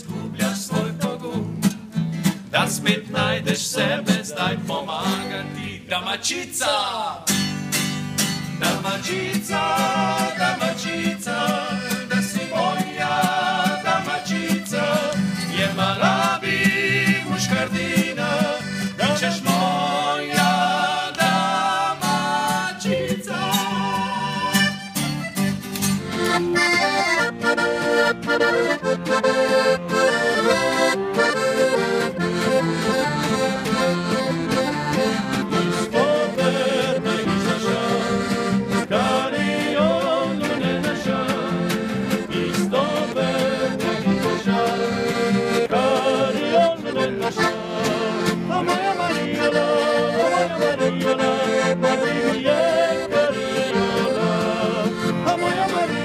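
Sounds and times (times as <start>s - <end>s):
strummed acoustic guitar: 0.0s - 5.8s, 7.3s - 56.0s
acoustic bass guitar: 0.0s - 5.9s, 7.2s - 56.0s
accordion playing lively melody: 2.3s - 5.4s, 7.9s - 56.0s.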